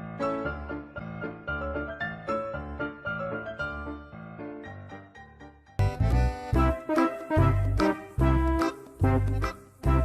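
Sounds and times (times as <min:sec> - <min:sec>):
piano melody over bass line: 0:00.0 - 0:10.0.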